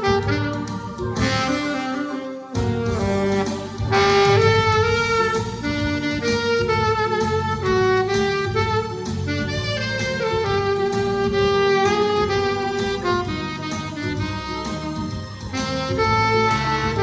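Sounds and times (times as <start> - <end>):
saxophone melody: 0.0 - 17.0.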